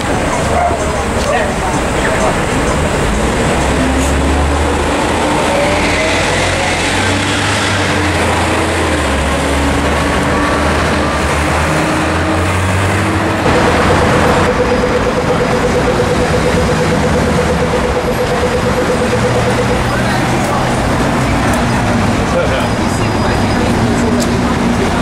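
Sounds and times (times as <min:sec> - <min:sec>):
crossing signal rapid ticking: 0:00.0 - 0:12.6, 0:13.3 - 0:25.0
city traffic engines and tyres: 0:00.0 - 0:25.0.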